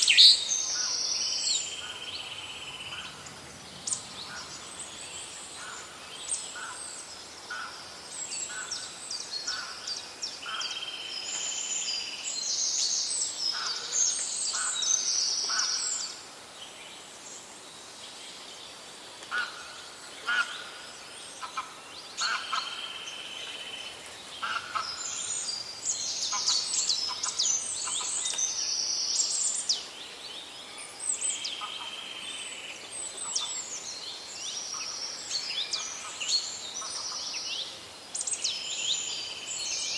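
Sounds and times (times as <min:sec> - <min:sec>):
birds chirping and trilling: 0:00.0 - 0:39.9
faint steady hiss: 0:00.0 - 0:39.9.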